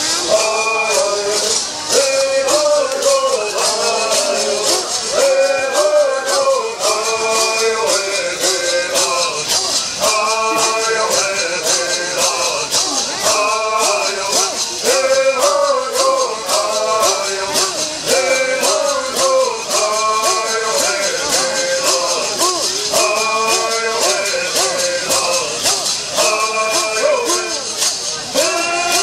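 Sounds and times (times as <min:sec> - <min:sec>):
gourd rattles shaking: 0:00.0 - 0:29.0
men singing: 0:00.0 - 0:29.0.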